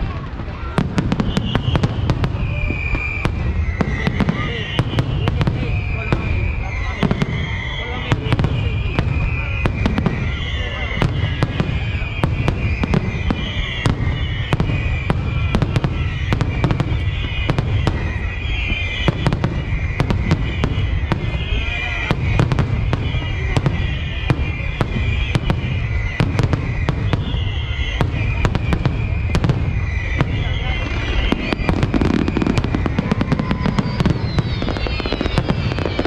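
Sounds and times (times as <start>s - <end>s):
fireworks bangs: 0.0s - 36.0s.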